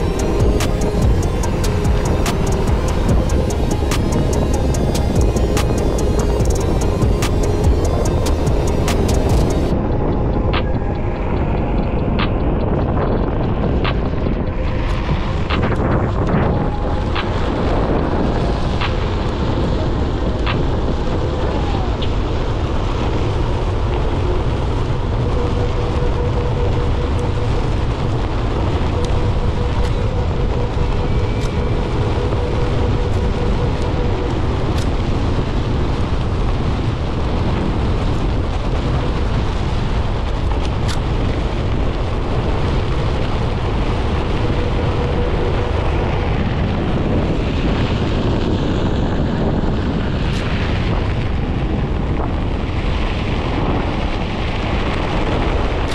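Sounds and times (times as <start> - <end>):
hub motor whine: 0.0 - 51.3
wind rumbling on microphone: 0.0 - 55.9.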